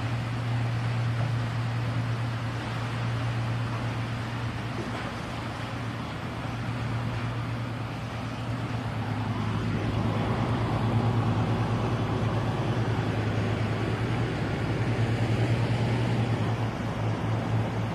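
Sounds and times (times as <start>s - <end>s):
boat engine humming: 0.0s - 17.9s
water wash: 0.0s - 17.9s.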